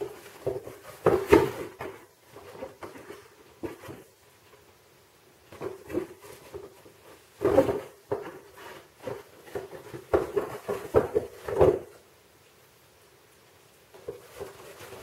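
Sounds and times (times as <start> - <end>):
box bumping and scraping on tiles: 0.0 - 4.6, 5.5 - 12.0, 14.0 - 15.0.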